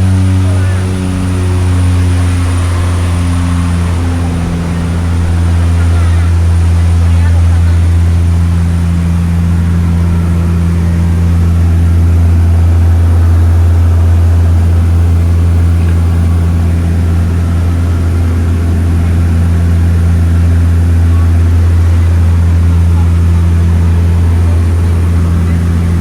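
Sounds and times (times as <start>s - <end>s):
propeller engines droning: 0.0s - 26.0s.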